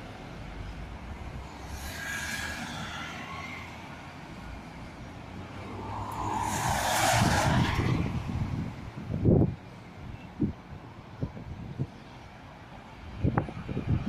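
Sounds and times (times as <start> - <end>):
traffic passing: 0.0 - 14.0.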